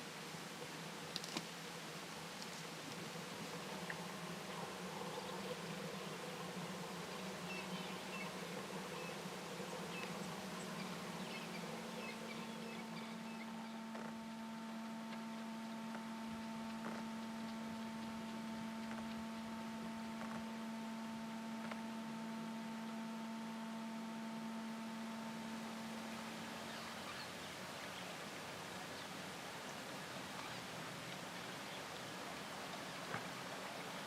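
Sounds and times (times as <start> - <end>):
steady low hum: 0.0 - 34.0
higher steady tones: 1.9 - 32.6.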